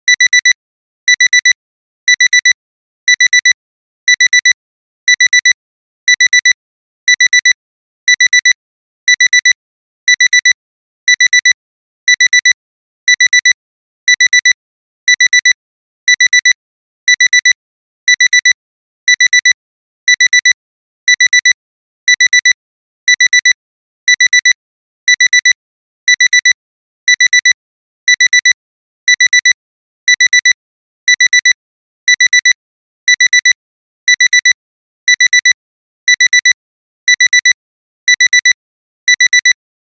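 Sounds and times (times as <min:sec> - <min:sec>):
digital alarm clock beeping: 0:00.1 - 0:00.5, 0:01.1 - 0:01.5, 0:02.1 - 0:39.6.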